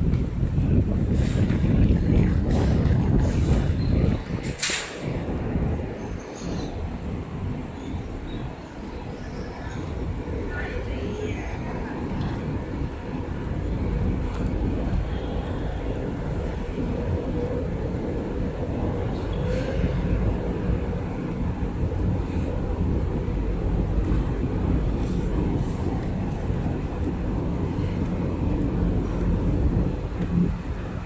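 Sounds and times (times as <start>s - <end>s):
city traffic rumble: 0.0s - 31.0s.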